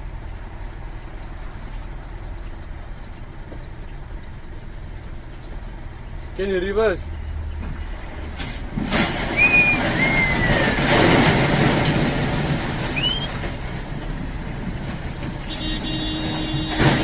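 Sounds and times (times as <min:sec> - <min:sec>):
vehicles running: 0:00.0 - 0:17.0.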